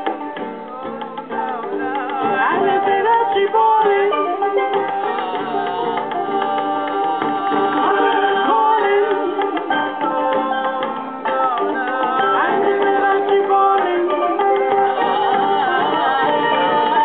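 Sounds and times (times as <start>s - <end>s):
acoustic guitar playing: 0.0s - 17.0s
live acoustic band music: 0.0s - 17.0s.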